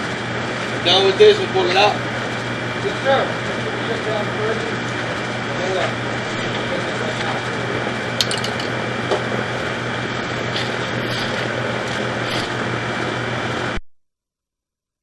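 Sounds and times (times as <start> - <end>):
machine drone: 0.0 - 13.8.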